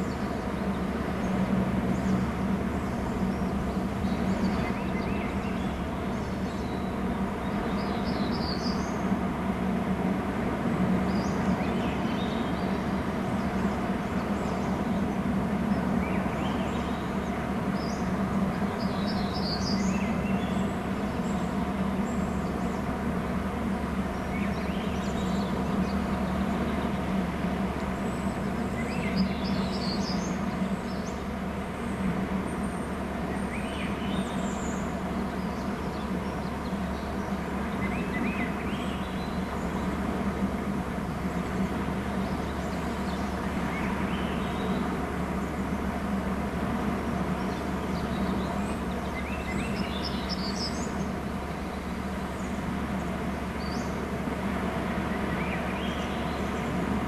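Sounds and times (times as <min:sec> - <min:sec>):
low microphone hum and noise: 0:00.0 - 0:57.0.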